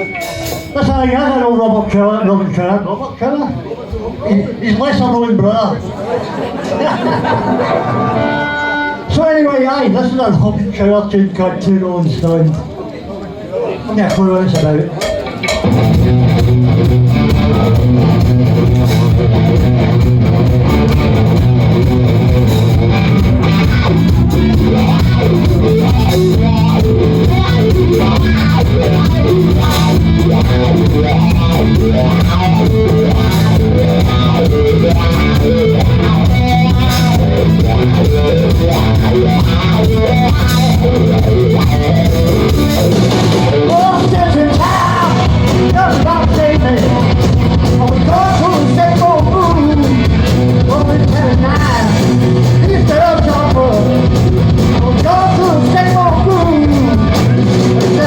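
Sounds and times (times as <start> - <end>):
rock band playing live: 0.0 - 2.0, 6.0 - 11.1, 14.1 - 58.0.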